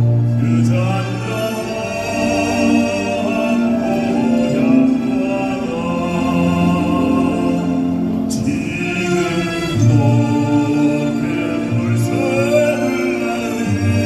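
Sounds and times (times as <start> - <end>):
man singing classical song: 0.0 - 14.0
musical accompaniment: 0.0 - 14.0.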